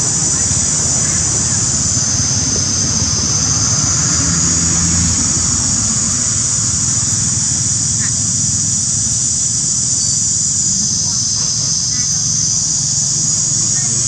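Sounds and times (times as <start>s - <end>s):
high-pitched insect drone: 0.0s - 14.0s
low steady rumble: 0.0s - 14.0s.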